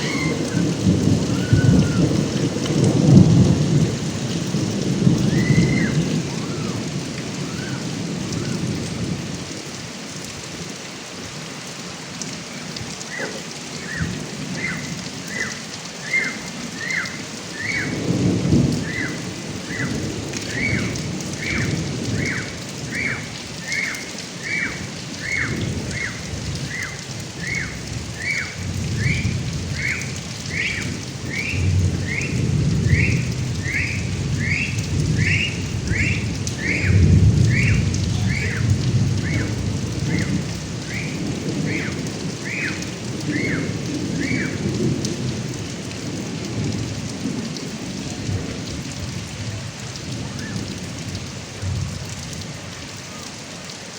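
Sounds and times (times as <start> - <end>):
low thunder rumbling: 0.0 - 9.8, 12.5 - 52.6
heavy rain pouring off gutter spout: 0.0 - 53.9.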